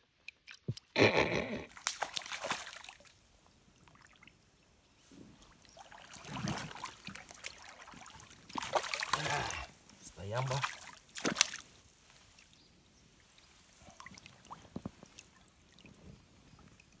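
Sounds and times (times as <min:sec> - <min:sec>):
water sloshing and splashing: 0:01.7 - 0:04.4, 0:05.0 - 0:12.6, 0:13.2 - 0:17.0.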